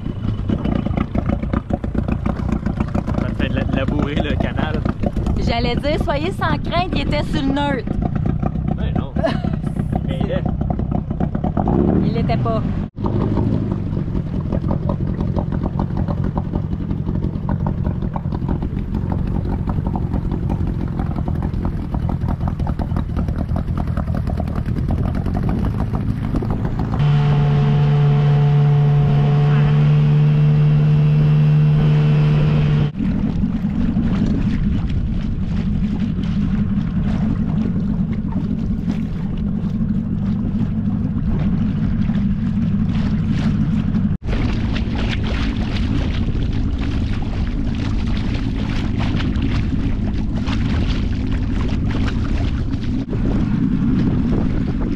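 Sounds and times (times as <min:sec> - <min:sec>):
outboard motor running: 0:00.0 - 0:54.9
water rushing: 0:00.0 - 0:54.9
wind on microphone: 0:00.0 - 0:54.9.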